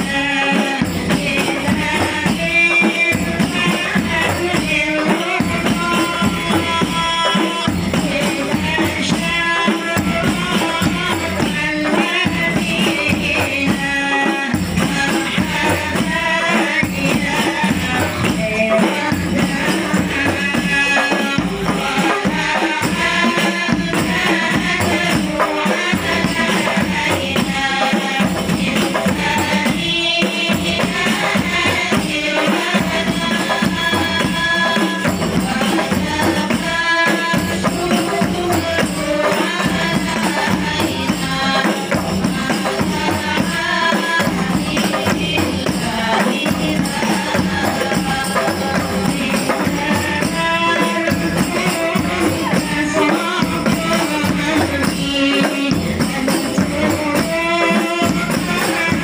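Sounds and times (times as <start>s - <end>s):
frame drums beating: 0.0s - 59.0s
women singing together: 0.0s - 59.0s.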